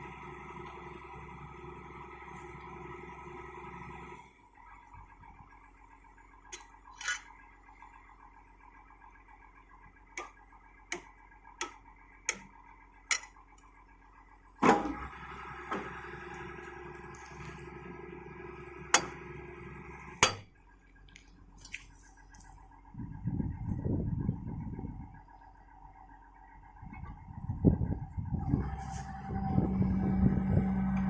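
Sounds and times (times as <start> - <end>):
excavator engine droning: 0.0 - 31.0.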